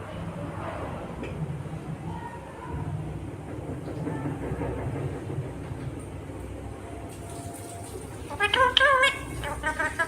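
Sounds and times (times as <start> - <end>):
low rumble of background noise: 0.0 - 10.0.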